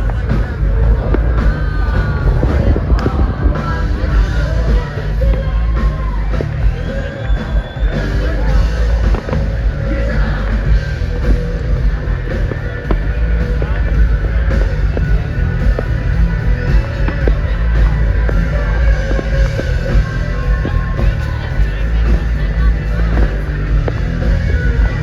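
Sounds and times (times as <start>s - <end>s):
rock music: 0.0s - 25.0s.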